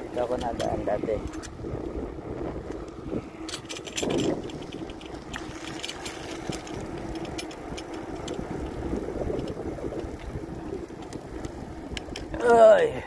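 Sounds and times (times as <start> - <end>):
bicycle tyres rumbling on concrete: 0.0 - 13.0
bike clicks and rattles: 0.0 - 13.0
wind: 0.0 - 13.0.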